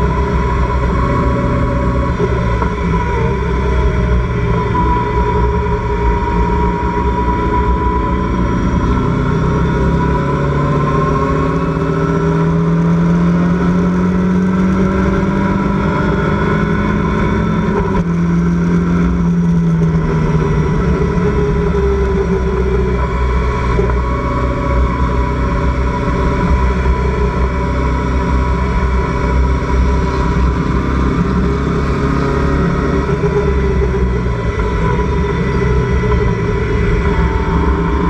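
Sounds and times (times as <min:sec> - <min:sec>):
road noise: 0:00.0 - 0:38.0.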